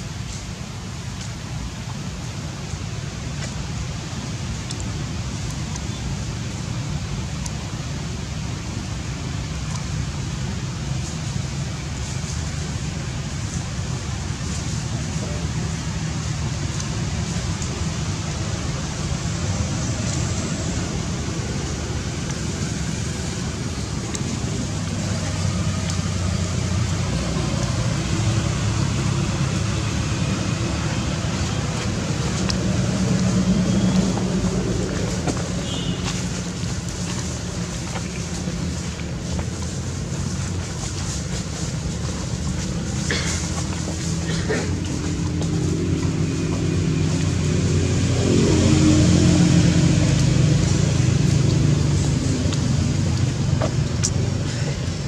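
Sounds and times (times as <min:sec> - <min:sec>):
engine droning: 0:00.0 - 0:55.0
low rumbling background noise: 0:00.0 - 0:55.0.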